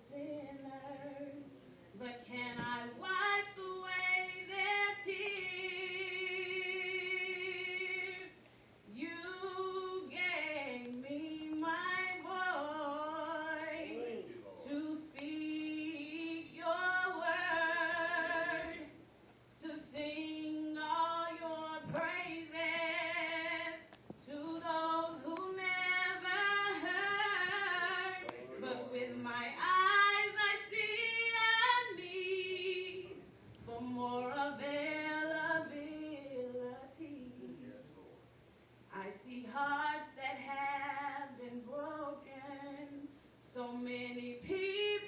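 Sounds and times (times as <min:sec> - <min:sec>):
woman singing unaccompanied: 0:00.0 - 0:14.0, 0:14.6 - 0:19.0, 0:19.6 - 0:33.1, 0:33.7 - 0:37.6, 0:38.9 - 0:45.0.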